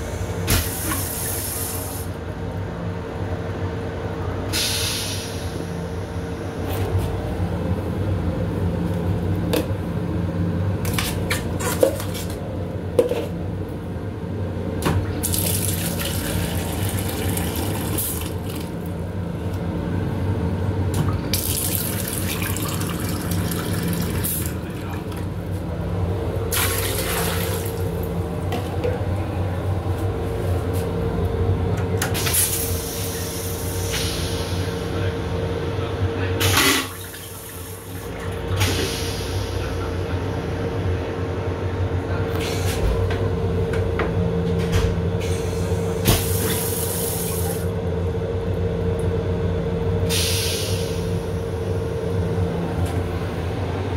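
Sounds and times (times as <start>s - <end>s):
train hum and rumble: 0.0s - 53.9s.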